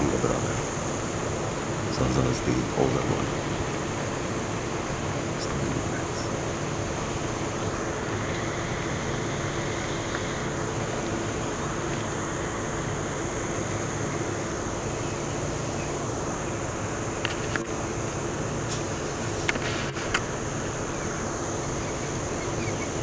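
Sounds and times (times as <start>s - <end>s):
high hiss: 0.0s - 23.0s
vehicle engine idling: 0.0s - 23.0s.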